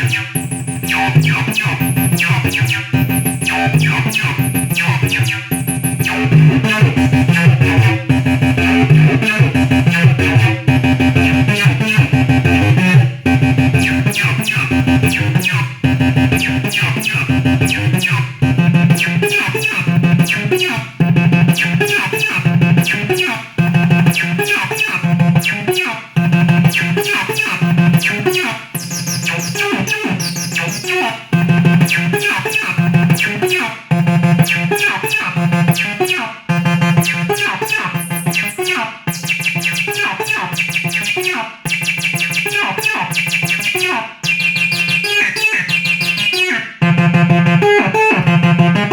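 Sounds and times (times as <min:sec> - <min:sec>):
synthesizer acid bassline: 0:00.0 - 0:48.9.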